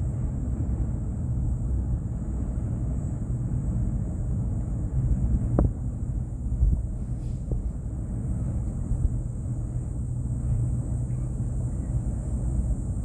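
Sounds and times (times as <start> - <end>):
cable car rumble: 0.0 - 13.0.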